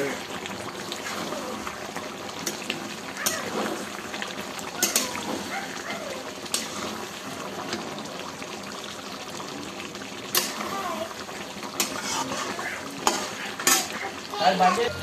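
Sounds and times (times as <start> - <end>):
spatula stirring in pan: 0.0 - 8.0, 10.3 - 15.0
curry bubbling and sizzling: 0.0 - 15.0.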